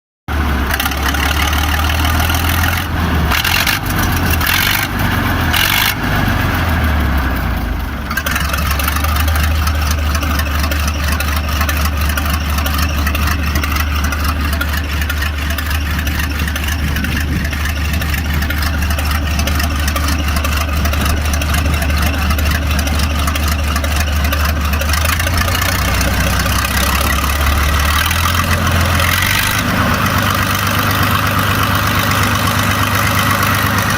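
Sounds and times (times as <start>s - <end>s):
diesel engine starting and running: 0.3s - 33.9s.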